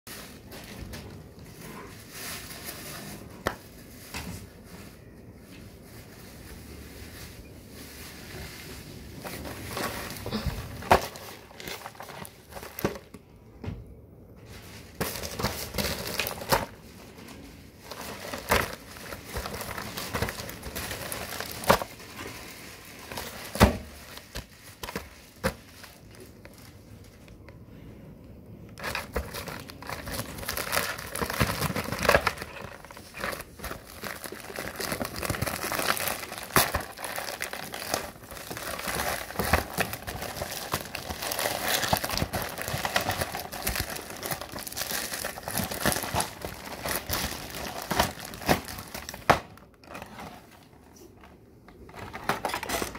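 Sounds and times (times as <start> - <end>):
padded envelope crinkling: 0.1 - 13.2, 14.4 - 27.6, 28.4 - 52.9.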